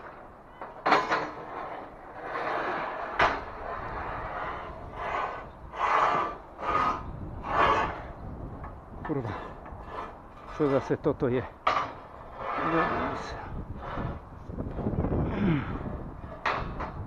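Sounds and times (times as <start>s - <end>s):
steel scaffolding scraping: 0.0s - 17.0s.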